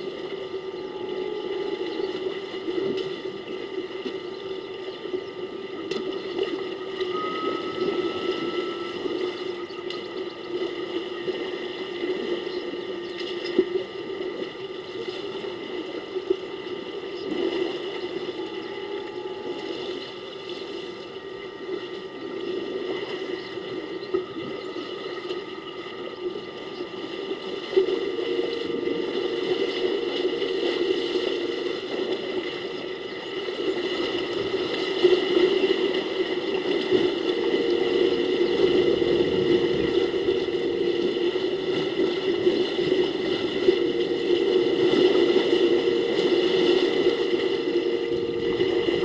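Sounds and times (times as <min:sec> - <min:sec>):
steady hum: 0:00.0 - 0:49.0
water sloshing and splashing: 0:00.0 - 0:49.0.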